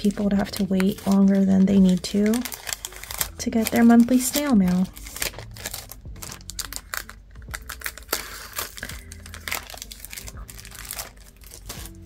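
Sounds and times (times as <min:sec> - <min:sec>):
plastic and paper crinkling: 0:00.0 - 0:12.0.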